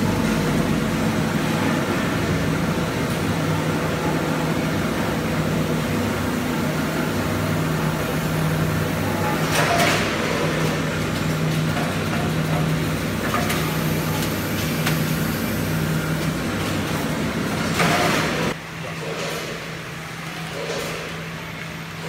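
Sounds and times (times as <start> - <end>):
packing machine humming: 0.0 - 22.0.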